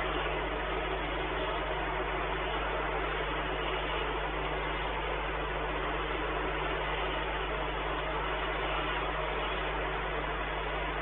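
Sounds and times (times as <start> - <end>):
constant low hum: 0.0 - 11.0
steady hiss: 0.0 - 11.0.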